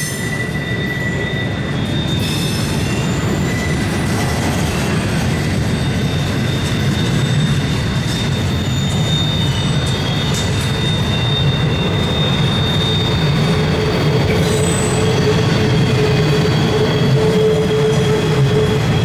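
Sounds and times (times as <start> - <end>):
freight train cars rolling: 0.0 - 19.0
high wheel squeals: 0.0 - 19.0.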